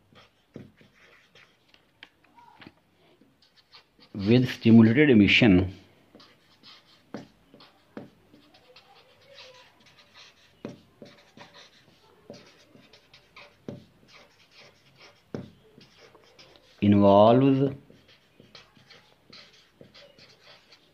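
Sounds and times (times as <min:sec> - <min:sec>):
marker pen scratching paper: 0:00.0 - 0:02.1, 0:03.4 - 0:05.0, 0:06.1 - 0:20.9.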